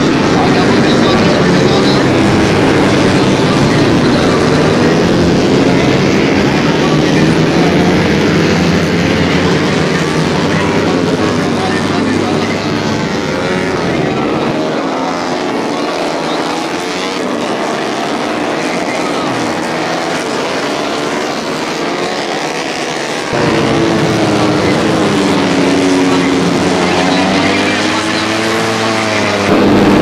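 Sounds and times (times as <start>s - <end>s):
motorcycles racing at high revs: 0.0s - 30.0s.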